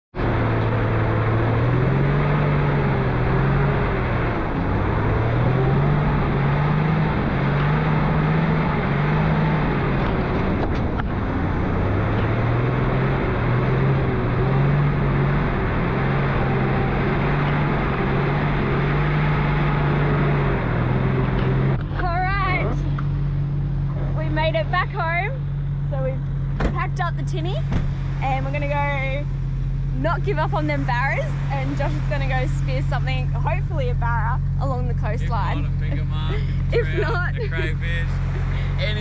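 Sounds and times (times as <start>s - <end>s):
vehicle engine revving: 0.1s - 39.0s.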